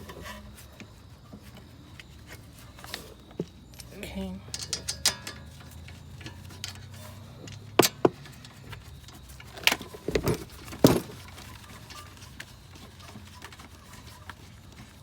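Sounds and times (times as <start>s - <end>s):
metal tools clinking: 2.3s - 15.0s.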